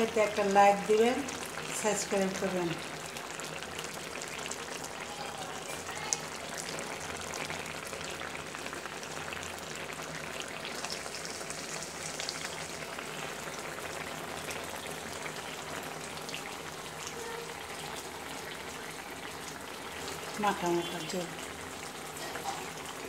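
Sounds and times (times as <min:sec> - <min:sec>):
curry bubbling and sizzling: 0:00.0 - 0:23.0.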